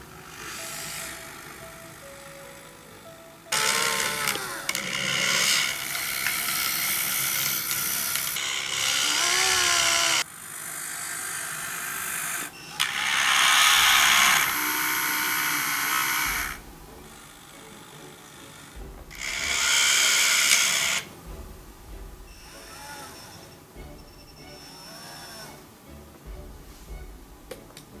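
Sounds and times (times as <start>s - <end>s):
geared electric motors whining: 0.0s - 27.2s.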